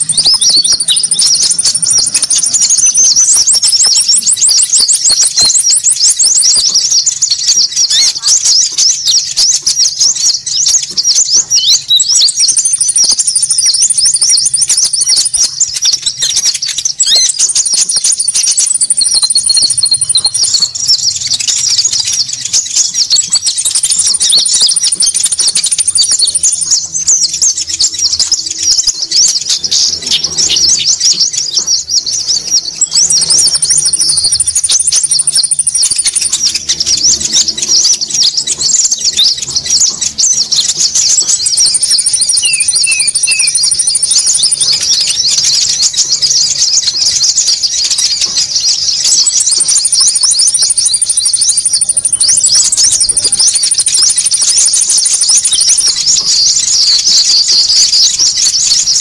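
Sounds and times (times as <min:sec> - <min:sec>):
high bird trill: 0:00.0 - 0:59.0
songbirds chattering chorus: 0:00.0 - 0:59.0.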